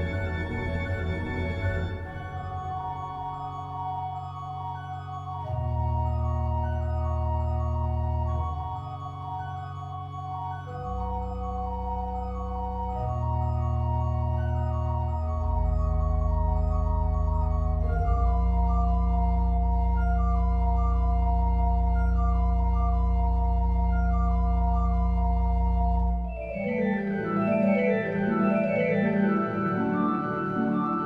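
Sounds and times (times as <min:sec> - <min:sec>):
pipe organ playing: 0:00.0 - 0:31.0.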